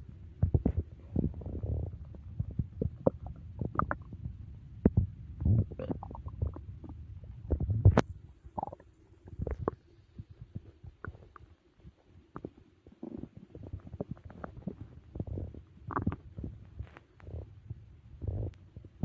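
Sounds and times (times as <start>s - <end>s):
stomach growling and gurgling: 0.0s - 19.0s.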